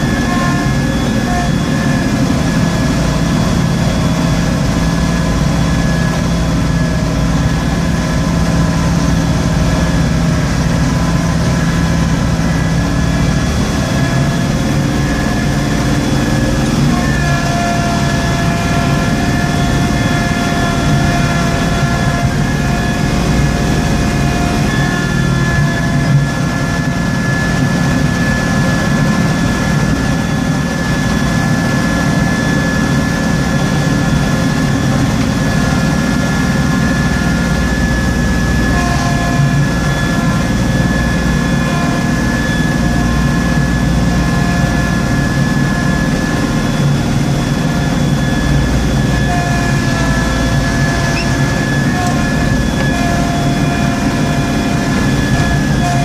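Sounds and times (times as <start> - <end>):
steady whine: 0.0 - 56.0
tractor engine running under load: 0.0 - 56.0.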